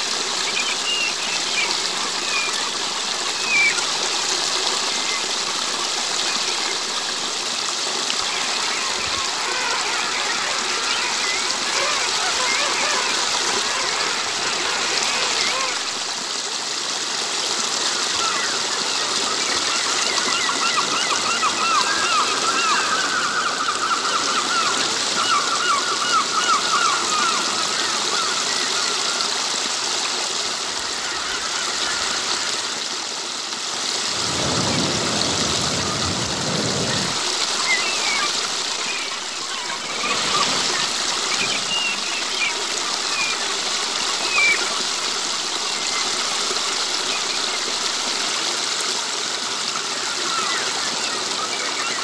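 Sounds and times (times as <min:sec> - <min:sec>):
water trickling over stones: 0:00.0 - 0:52.0.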